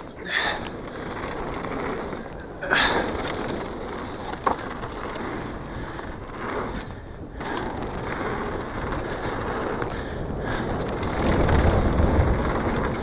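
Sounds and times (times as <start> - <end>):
bike tyres rushing on dirt: 0.0 - 13.0
wind on microphone: 0.0 - 13.0.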